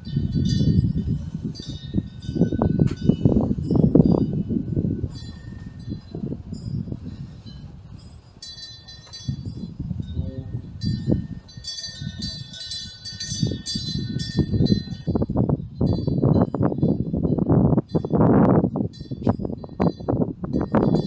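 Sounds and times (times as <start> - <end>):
wind bells ringing: 0.0 - 21.0
wind rumbling on microphone: 0.0 - 21.0.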